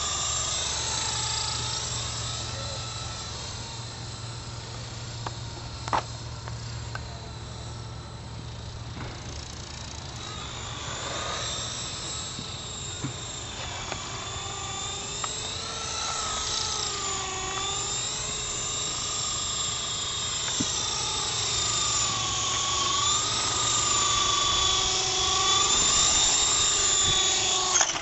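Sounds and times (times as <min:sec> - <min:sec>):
toy helicopter motor whining: 0:00.0 - 0:28.0.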